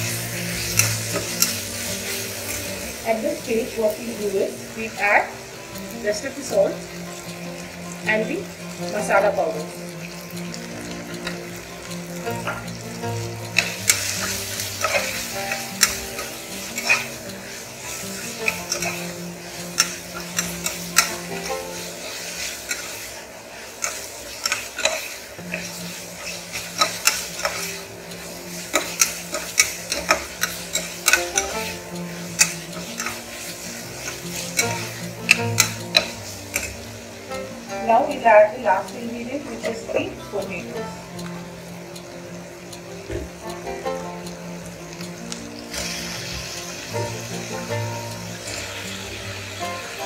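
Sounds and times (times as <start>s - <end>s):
frying sizzle: 0.0s - 50.0s.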